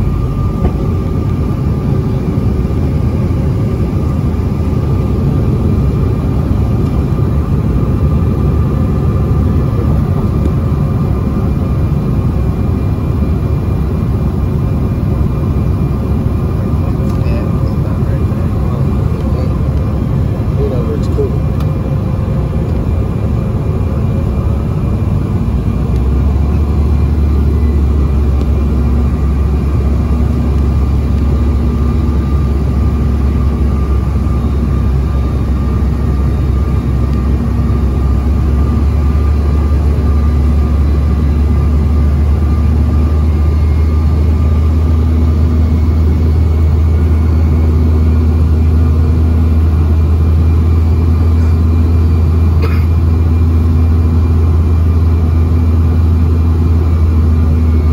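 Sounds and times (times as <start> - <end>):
jet cabin roar: 0.0 - 57.9.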